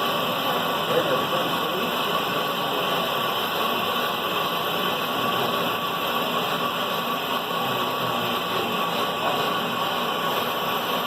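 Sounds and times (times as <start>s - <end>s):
brake lathe cutting hiss: 0.0s - 11.0s
faint steady whine: 0.0s - 11.0s.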